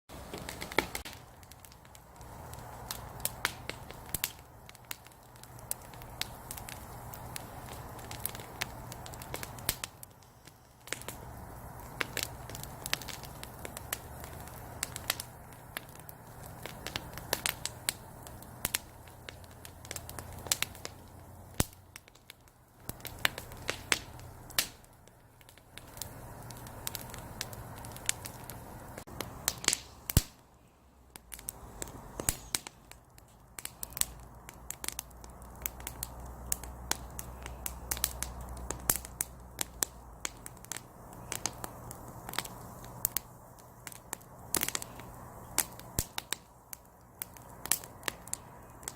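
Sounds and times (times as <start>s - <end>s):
firewood crackling and popping: 0.1s - 48.9s.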